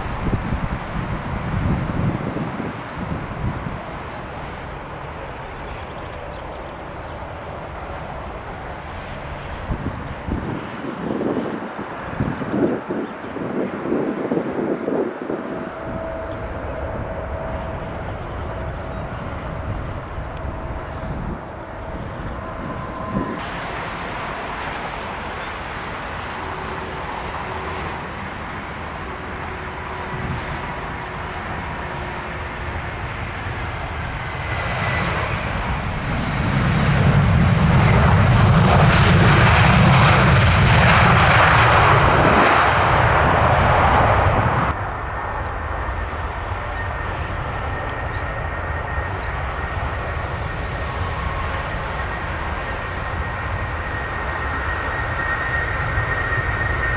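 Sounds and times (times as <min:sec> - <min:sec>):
jet airliner passing overhead: 0:00.0 - 0:56.9.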